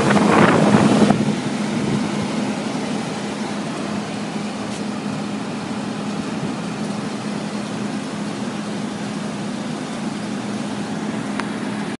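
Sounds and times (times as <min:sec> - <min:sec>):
blower rushing air: 0:00.0 - 0:12.0
constant low hum: 0:00.0 - 0:12.0.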